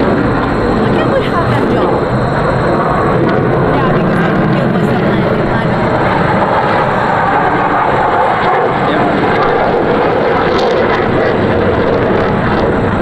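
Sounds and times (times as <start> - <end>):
fighter jet flying over: 0.0 - 13.0.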